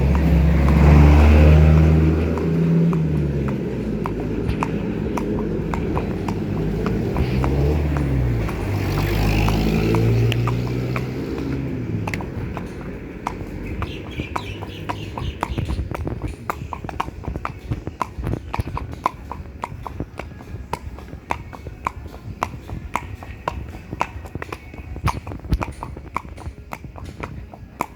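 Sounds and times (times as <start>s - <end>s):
horse hooves clip-clopping: 0.0s - 27.9s.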